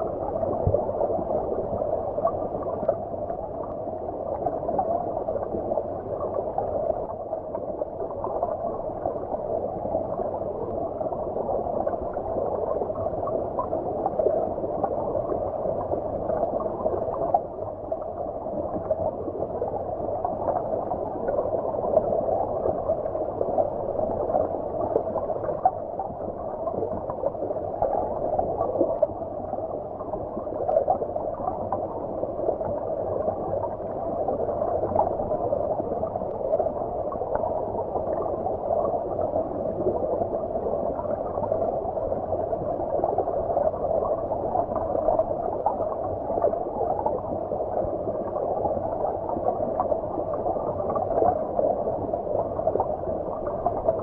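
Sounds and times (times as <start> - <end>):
underwater stream gurgling: 0.0 - 54.0.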